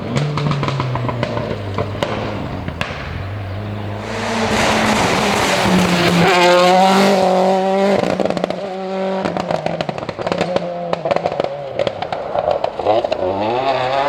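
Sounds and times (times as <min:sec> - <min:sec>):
exhaust crackles and pops: 0:00.0 - 0:08.6, 0:09.2 - 0:14.0
rally car engine high revs: 0:00.0 - 0:14.0.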